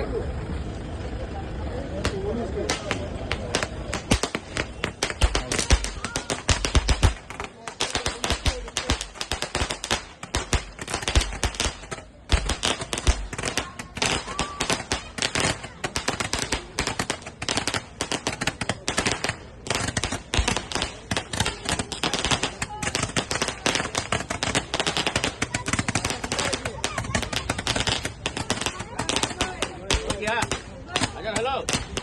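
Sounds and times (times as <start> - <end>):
firecrackers going off: 0.0 - 32.0.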